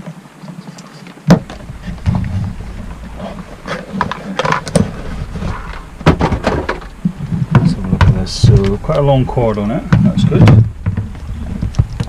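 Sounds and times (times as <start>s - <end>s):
low rumble: 1.4s - 12.0s.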